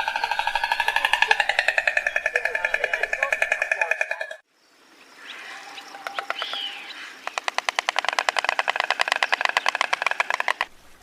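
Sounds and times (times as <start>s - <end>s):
stork clattering its bill: 0.0s - 4.4s, 6.0s - 10.7s.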